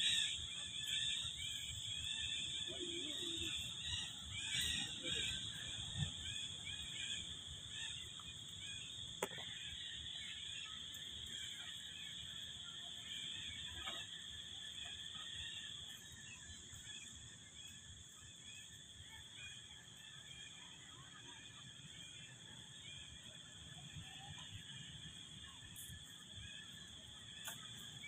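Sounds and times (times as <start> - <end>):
high-pitched insect drone: 0.0 - 28.0.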